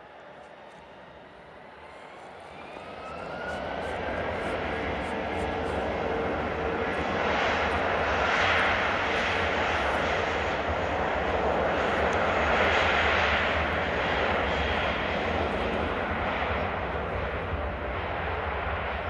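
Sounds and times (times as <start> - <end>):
jet engines rushing: 0.6 - 19.0.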